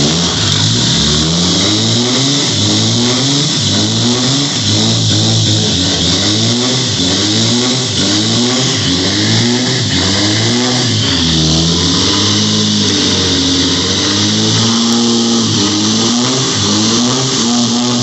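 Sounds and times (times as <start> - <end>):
diesel engine revving: 0.0 - 18.0
tires spinning on concrete: 0.0 - 18.0.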